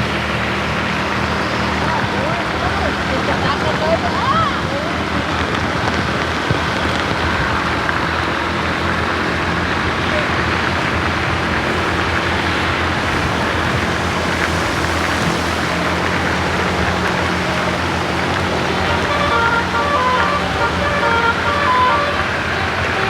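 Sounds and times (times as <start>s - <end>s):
road traffic hiss: 0.0s - 23.0s
vehicle engine humming: 0.0s - 23.0s.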